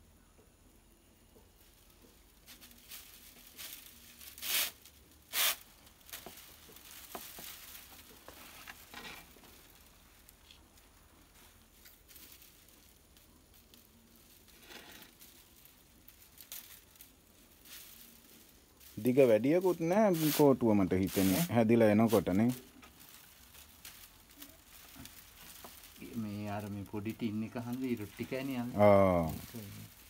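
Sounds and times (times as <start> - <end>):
rope scraping on stiff sticks: 2.4 - 10.7, 11.3 - 30.0.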